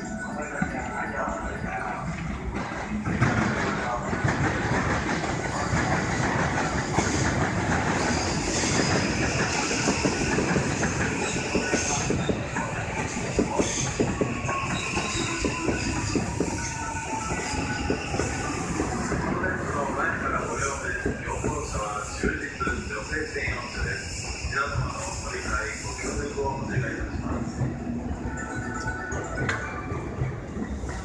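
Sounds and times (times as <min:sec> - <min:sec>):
electric train rumbling past: 0:00.0 - 0:31.0.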